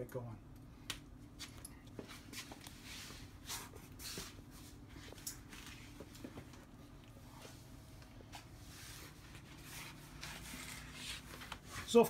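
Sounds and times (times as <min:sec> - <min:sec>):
clothing rustle: 0:01.4 - 0:12.0
shuffling on concrete floor: 0:01.4 - 0:12.0.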